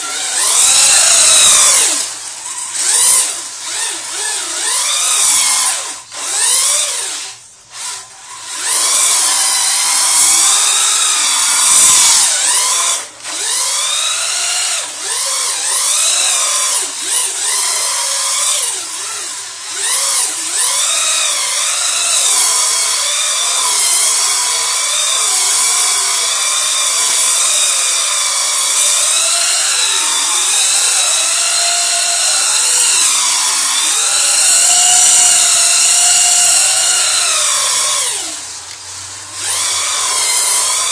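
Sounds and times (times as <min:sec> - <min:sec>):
rc truck electric motor whining: 0:00.0 - 0:40.9.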